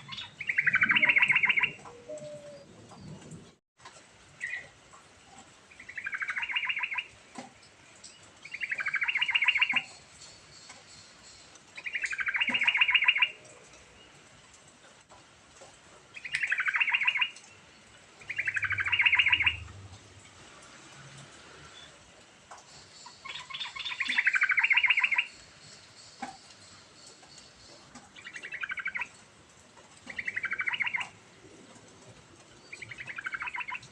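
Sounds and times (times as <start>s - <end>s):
bird singing rolling phrases: 0.0s - 3.5s, 4.3s - 4.8s, 5.6s - 14.3s, 16.1s - 20.2s, 22.6s - 29.4s, 30.0s - 33.9s.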